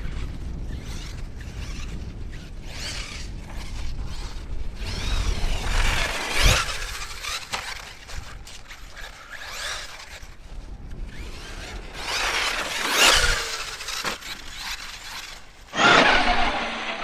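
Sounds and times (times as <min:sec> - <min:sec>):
electric motor whining: 0:02.6 - 0:17.0.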